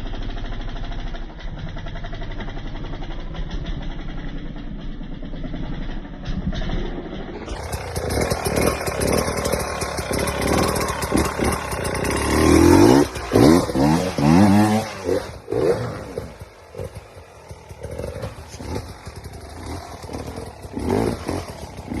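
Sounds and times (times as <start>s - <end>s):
dirt bike engine revving: 3.4s - 22.0s.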